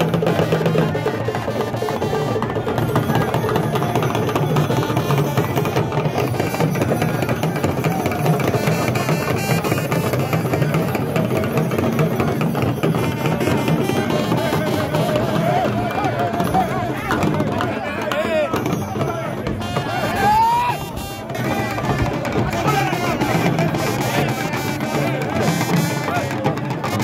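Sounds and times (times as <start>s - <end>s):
drum ensemble playing: 0.0s - 27.0s.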